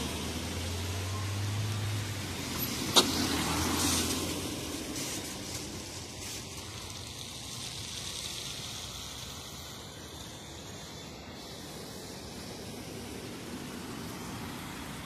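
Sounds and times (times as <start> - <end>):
electric bus driving away: 0.0 - 15.0.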